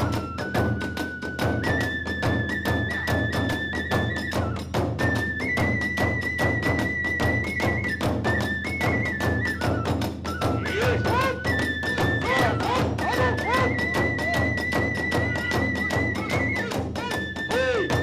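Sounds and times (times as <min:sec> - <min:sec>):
bamboo flute melody: 0:00.0 - 0:18.0
drums and hand cymbals beat: 0:00.0 - 0:18.0.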